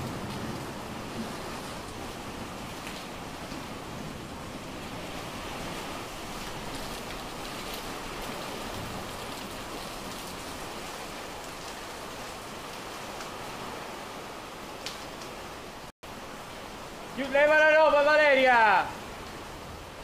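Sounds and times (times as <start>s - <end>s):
heavy rain behind windows: 0.0s - 20.0s.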